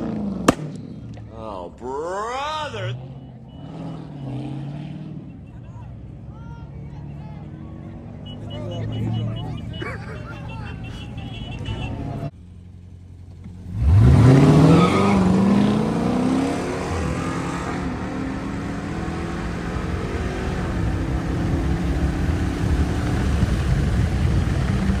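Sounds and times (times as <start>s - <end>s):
car engine revving: 0.0s - 1.7s, 2.7s - 25.0s.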